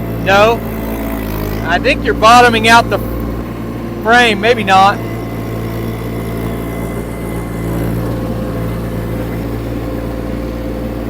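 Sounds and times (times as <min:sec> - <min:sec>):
small diesel engine running: 0:00.0 - 0:11.0.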